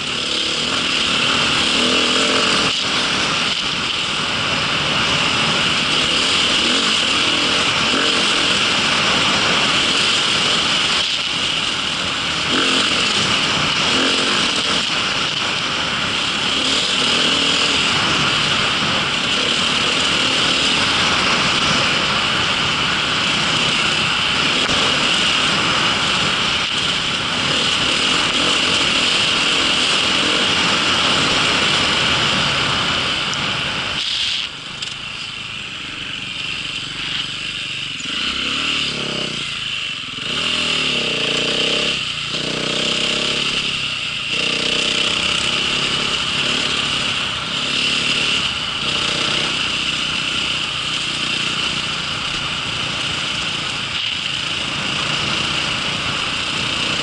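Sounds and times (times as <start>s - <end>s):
small vehicle engine running: 0.0s - 57.0s.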